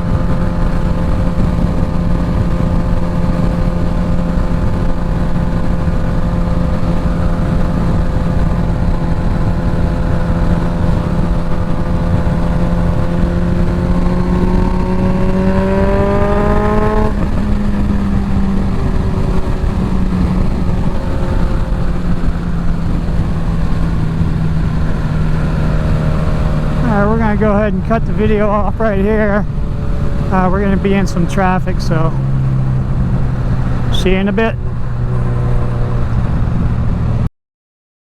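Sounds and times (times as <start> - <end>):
motorcycle engine: 0.0 - 37.3
wind noise on microphone: 0.0 - 37.3.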